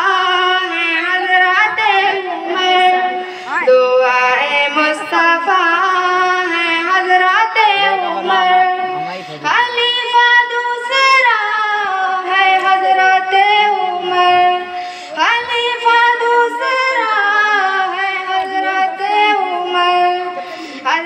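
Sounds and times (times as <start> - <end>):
child singing: 0.0 - 21.0.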